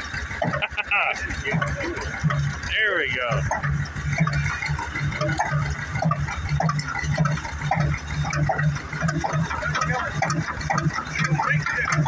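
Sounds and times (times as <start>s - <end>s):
stationary engine exhaust chuffing: 0.0s - 12.0s.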